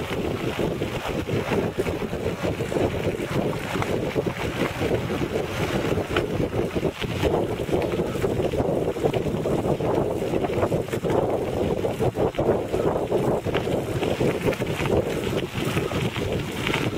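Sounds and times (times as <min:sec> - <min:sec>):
bicycle rolling over rough road: 0:00.0 - 0:16.9
wind buffeting microphone: 0:00.0 - 0:16.9.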